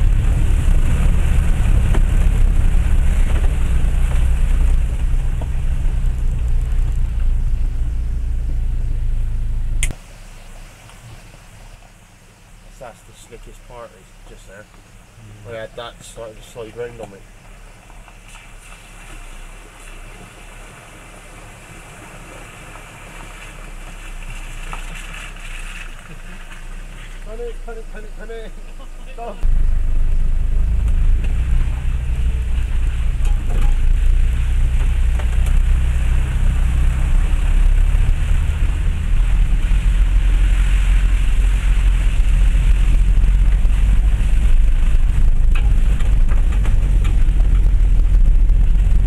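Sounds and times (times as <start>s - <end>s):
water noise: 0.0s - 12.7s, 17.3s - 49.0s
car engine and tyres rumbling: 0.0s - 49.0s.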